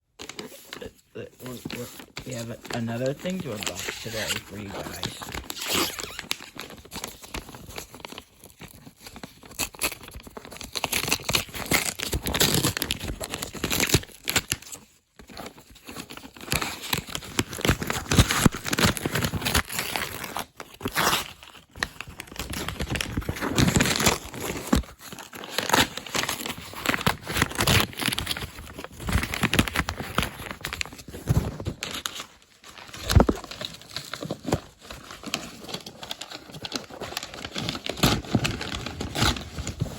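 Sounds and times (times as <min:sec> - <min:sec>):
packaging crinkling and rustling: 0:00.1 - 0:39.9
packaging tearing: 0:00.2 - 0:39.9.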